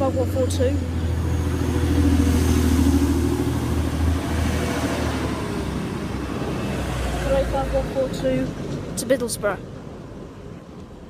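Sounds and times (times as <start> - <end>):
diesel train engine droning: 0.0 - 11.0.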